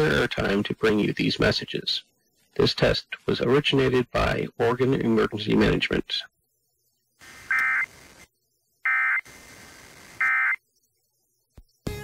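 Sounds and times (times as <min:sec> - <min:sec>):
buzzy two-tone data bursts: 0:00.0 - 0:11.5
faint radio hiss: 0:00.0 - 0:11.8.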